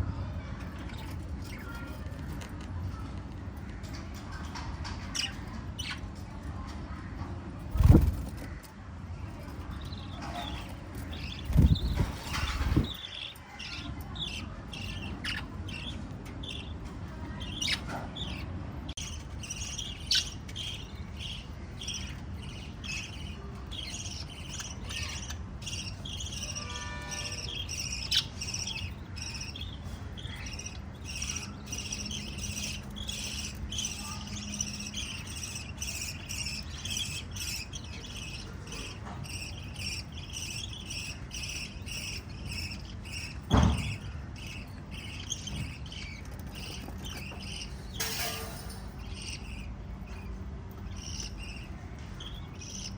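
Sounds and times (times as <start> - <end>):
parrots chirping: 0.6 - 7.0, 7.6 - 52.9.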